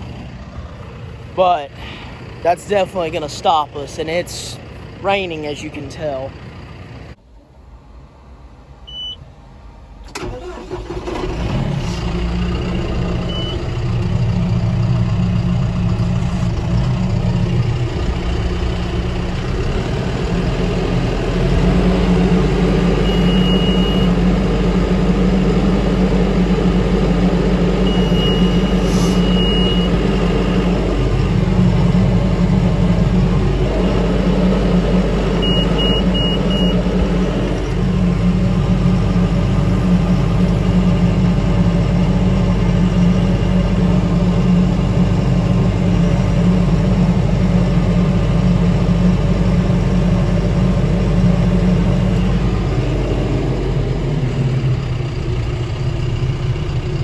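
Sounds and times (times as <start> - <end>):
tractor engine running: 0.0 - 7.2, 10.0 - 57.0.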